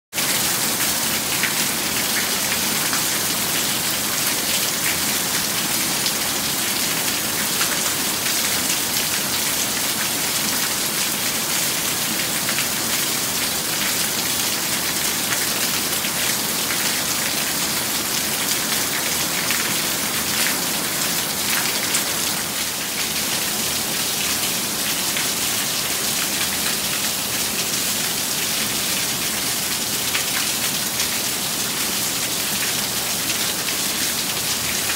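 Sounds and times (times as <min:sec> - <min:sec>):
torrential rain: 0:00.1 - 0:34.9.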